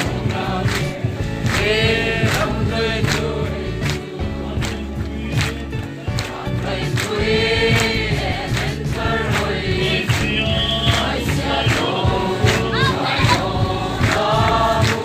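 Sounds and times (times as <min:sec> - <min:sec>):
group singing a hymn: 0:00.0 - 0:15.0
steady drum beat: 0:00.0 - 0:15.0.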